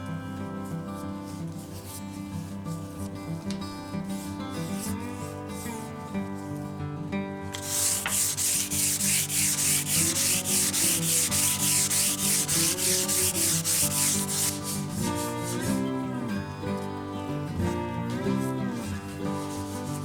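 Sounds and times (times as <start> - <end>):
guitar music: 0.0 - 20.0
sandpaper rubbing on wood: 0.6 - 6.3, 7.5 - 16.0, 18.1 - 20.0.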